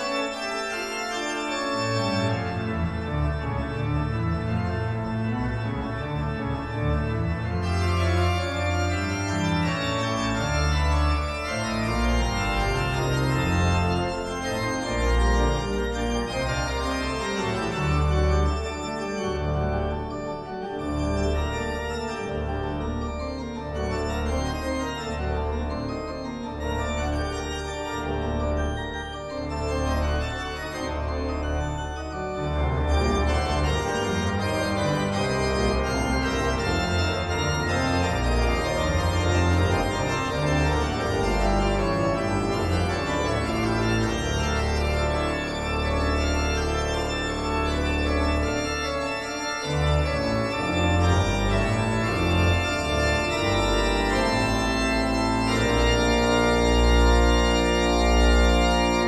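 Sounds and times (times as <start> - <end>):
organ bass line: 0.0 - 59.0
pipe organ chords: 0.0 - 59.0.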